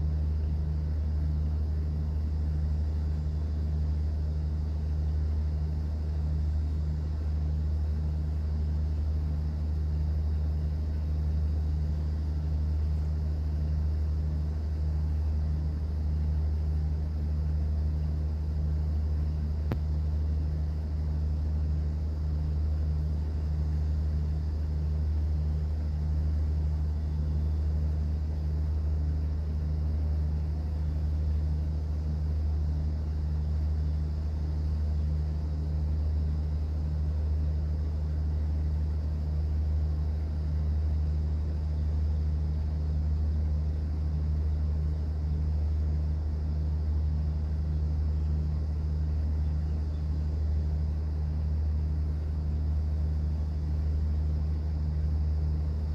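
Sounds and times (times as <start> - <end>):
boat engine drone: 0.0 - 55.9.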